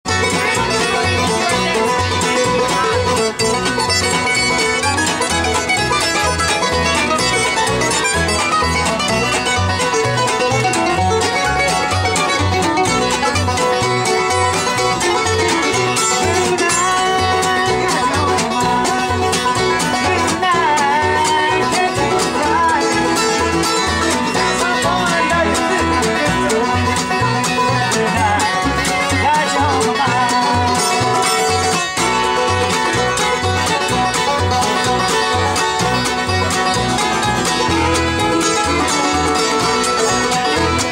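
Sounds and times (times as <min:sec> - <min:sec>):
acoustic guitar: 0:00.0 - 0:40.9
bass notes: 0:00.0 - 0:40.9
fiddle: 0:00.0 - 0:40.9
mandolin: 0:00.0 - 0:40.9.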